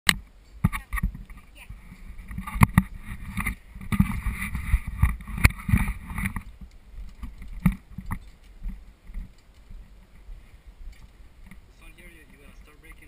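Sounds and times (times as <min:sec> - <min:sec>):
rustling: 0:00.4 - 0:13.0.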